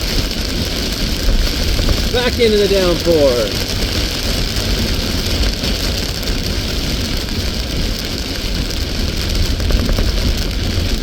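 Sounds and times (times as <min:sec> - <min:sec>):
car road and engine rumble: 0:00.0 - 0:11.0
rain hissing on car: 0:00.0 - 0:11.0.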